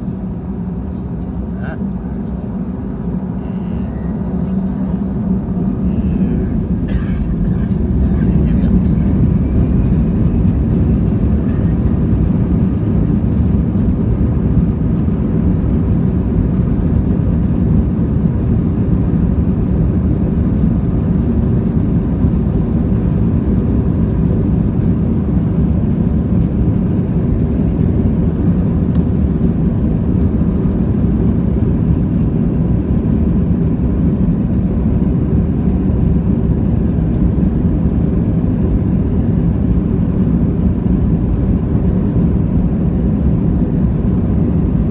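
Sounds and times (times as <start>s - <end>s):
jet engines roaring in cabin: 0.0s - 44.9s.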